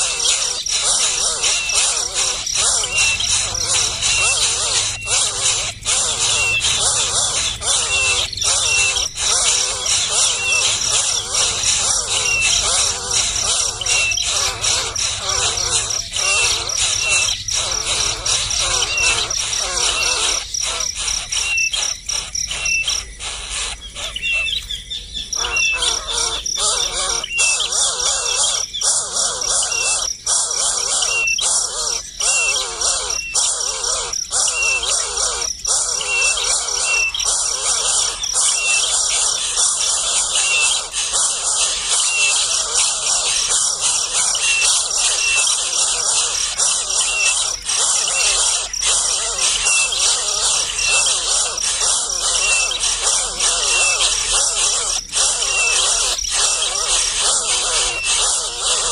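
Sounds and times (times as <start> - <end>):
insects droning: 0.0 - 58.9
small bird chirping: 0.0 - 58.9.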